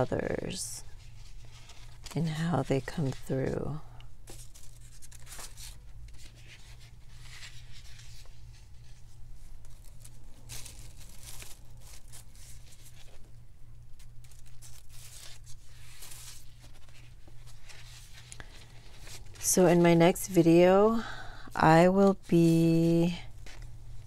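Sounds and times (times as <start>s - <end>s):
paper rustling and crinkling: 0.5s - 19.9s, 22.4s - 24.0s.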